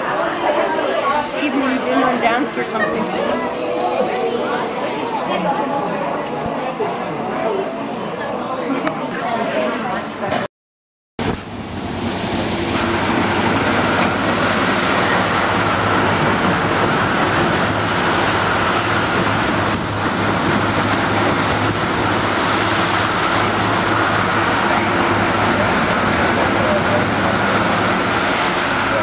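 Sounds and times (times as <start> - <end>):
boat engine droning: 0.0 - 8.2, 11.2 - 29.0.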